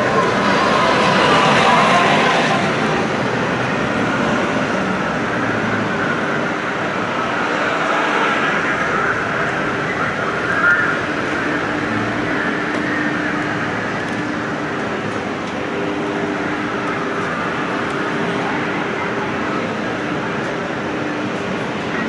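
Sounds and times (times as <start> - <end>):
city street traffic: 0.0 - 22.0.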